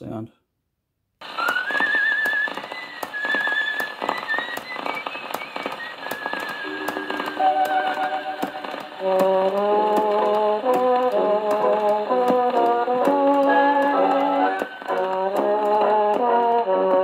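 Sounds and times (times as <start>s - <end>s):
record clicks and crackle: 1.2s - 17.0s.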